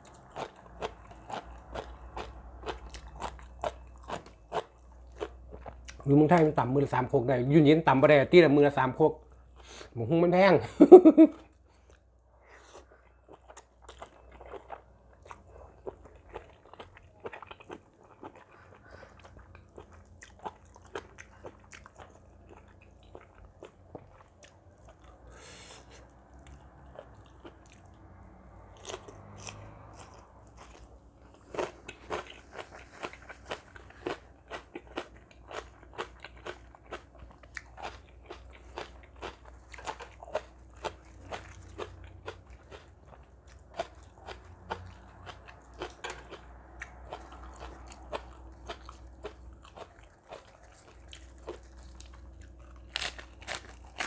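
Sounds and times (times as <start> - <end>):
person chewing crunchy food: 0.0 - 6.9, 11.3 - 54.0.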